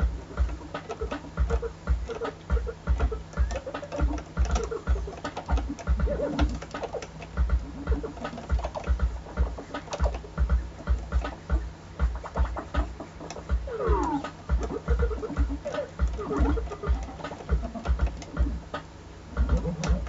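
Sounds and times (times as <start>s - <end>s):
backing beat with deep kick drum: 0.0s - 20.0s
crossfader clicks: 0.0s - 20.0s
vinyl record scratching: 0.0s - 20.0s.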